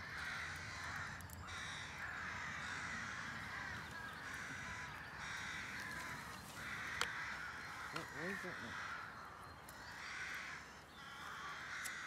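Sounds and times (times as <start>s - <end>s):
chorus of bird calls: 0.0s - 12.0s.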